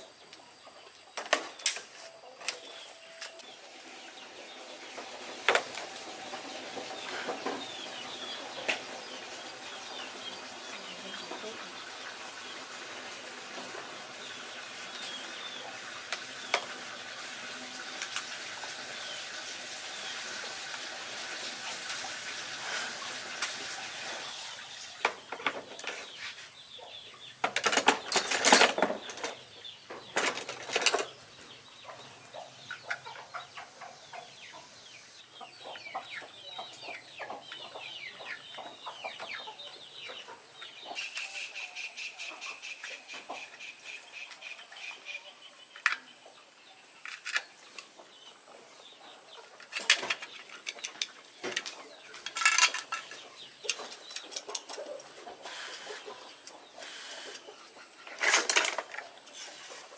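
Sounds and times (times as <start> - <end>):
chickens clucking: 0.0 - 59.9
noisy flurry of chickens: 0.0 - 59.9.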